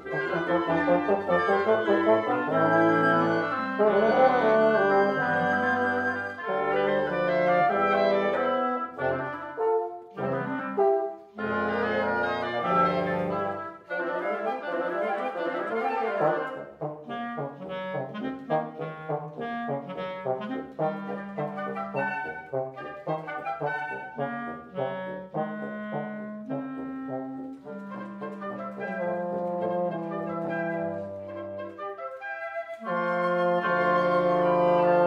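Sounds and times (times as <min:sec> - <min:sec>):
wind quintet playing chamber music: 0:00.0 - 0:35.0.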